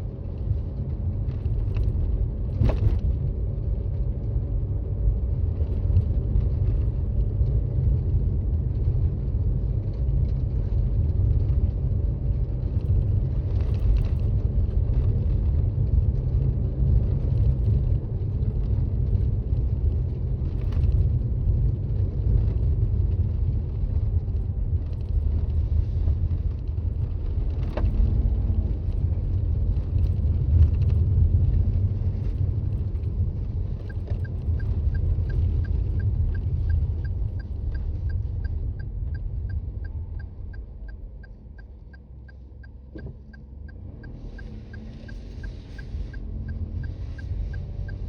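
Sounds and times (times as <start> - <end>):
car road rumble from inside: 0.0 - 48.0.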